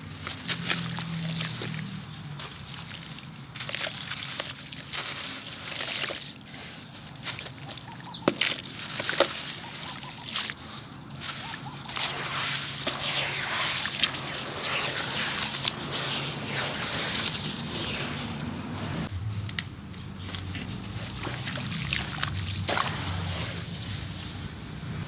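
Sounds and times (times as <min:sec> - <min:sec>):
grit crackling: 0:00.0 - 0:25.0
water sloshing: 0:00.0 - 0:25.0.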